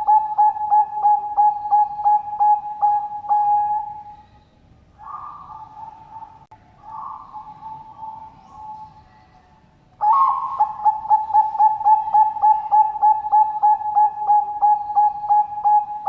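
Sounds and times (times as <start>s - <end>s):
dove cooing: 0.0s - 4.3s, 5.0s - 9.1s, 10.0s - 16.0s.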